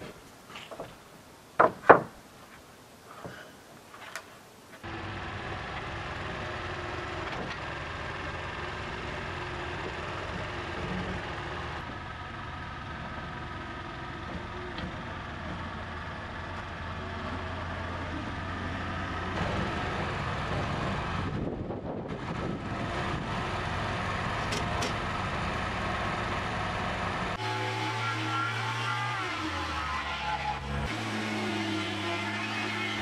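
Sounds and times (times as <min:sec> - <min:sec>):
sawmill engine running: 0:04.8 - 0:33.0
tractor engine running: 0:04.8 - 0:33.0.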